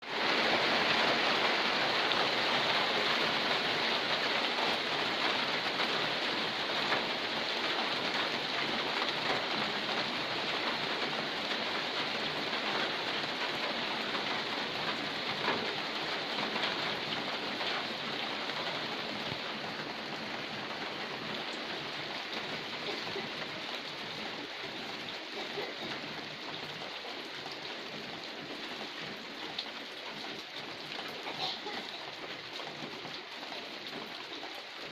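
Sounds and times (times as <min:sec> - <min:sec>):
heavy rain pattering: 0:00.0 - 0:34.9.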